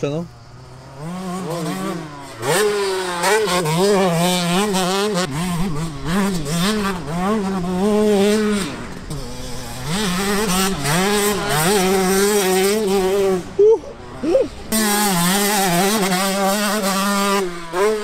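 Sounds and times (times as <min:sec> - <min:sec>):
two-stroke motocross engine revving: 0:00.0 - 0:18.0.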